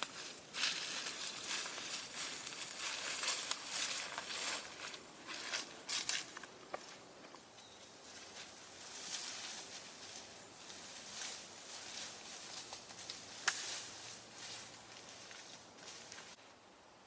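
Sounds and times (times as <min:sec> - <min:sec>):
rustling and crunching: 0:00.0 - 0:07.1, 0:08.0 - 0:16.4.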